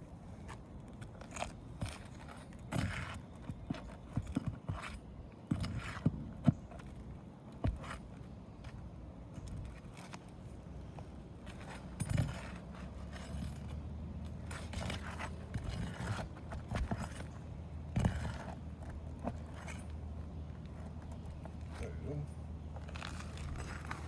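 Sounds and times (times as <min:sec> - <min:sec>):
scraping and rustling on roof shingles: 0:00.0 - 0:21.9, 0:22.5 - 0:24.0.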